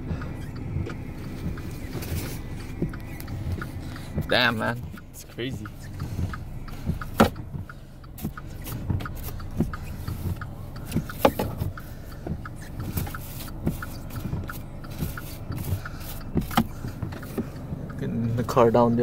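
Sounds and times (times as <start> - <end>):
car engine running: 0.0 - 19.0
light regular ticking: 0.0 - 19.0.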